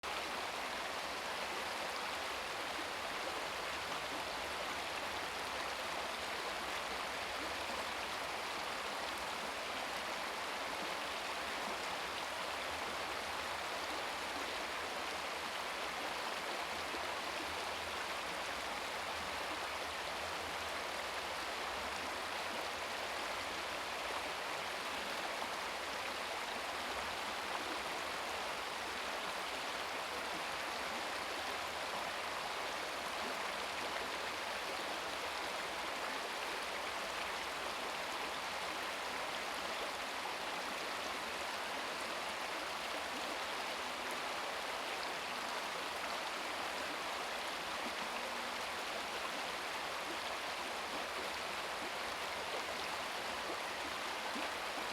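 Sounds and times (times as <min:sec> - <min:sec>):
stream water burbling over rocks: 0:00.0 - 0:54.9.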